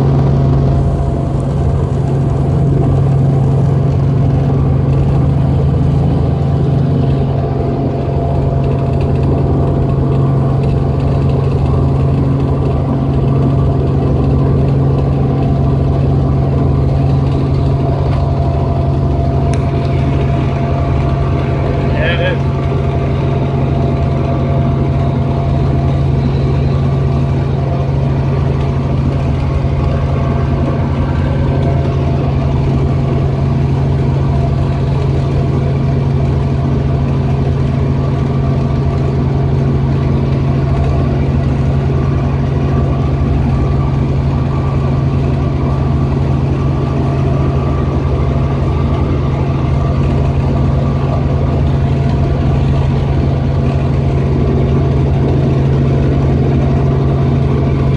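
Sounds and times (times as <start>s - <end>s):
helicopter engine and rotors: 0.0s - 57.9s.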